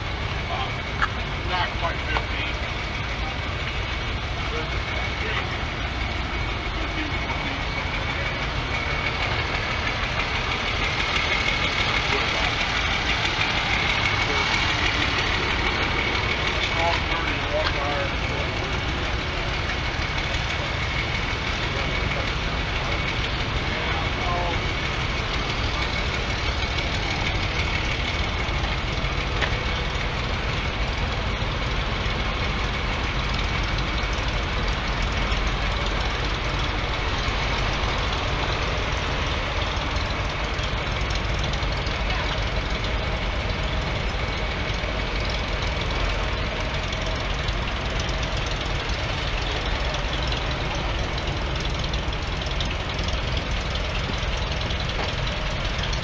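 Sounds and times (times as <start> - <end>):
tractor engines idling: 0.0 - 56.0.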